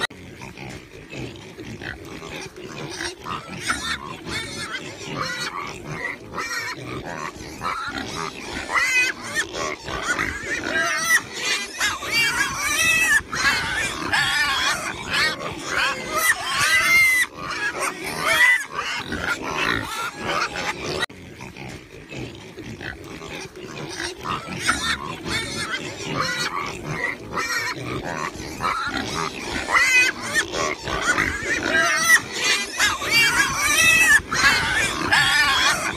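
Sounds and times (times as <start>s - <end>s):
pigs squealing: 0.0s - 35.9s.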